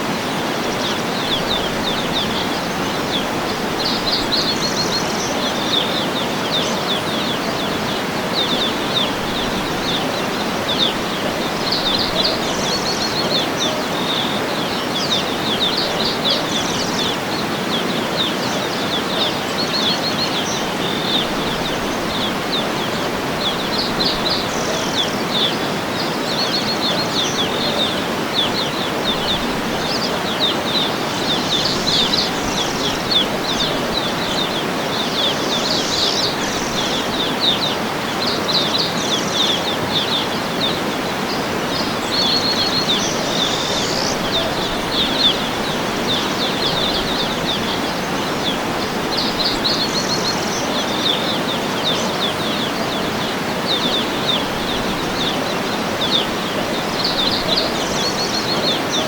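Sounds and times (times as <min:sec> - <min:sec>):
small birds chirping: 0:00.0 - 0:59.0
waterfall rushing: 0:00.0 - 0:59.0.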